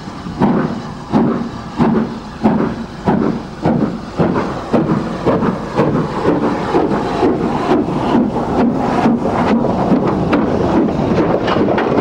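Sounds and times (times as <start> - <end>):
steam locomotive exhaust chuffing: 0.0 - 12.0.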